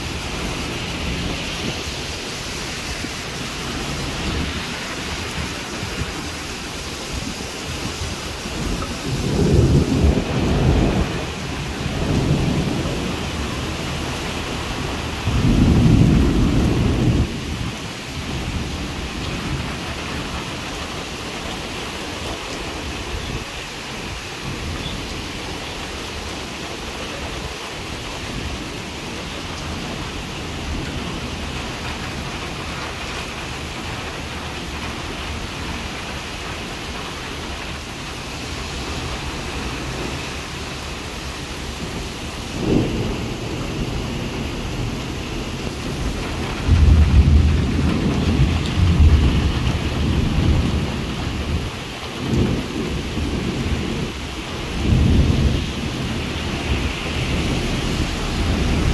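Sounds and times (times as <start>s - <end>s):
heavy rain hissing: 0.0s - 58.9s
thunder rumbling: 0.0s - 58.9s.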